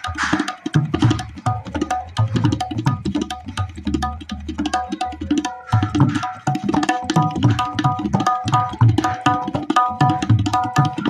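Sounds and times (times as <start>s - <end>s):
tabla played fast: 0.0s - 11.0s.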